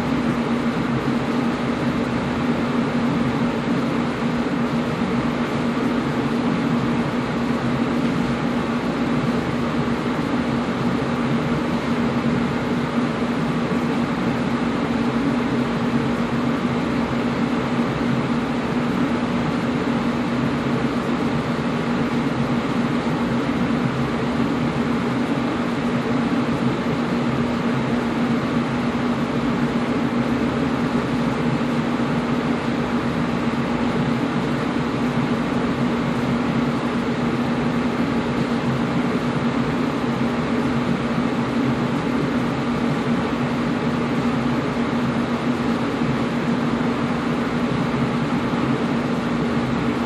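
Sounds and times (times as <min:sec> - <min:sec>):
air conditioner running: 0:00.0 - 0:50.0.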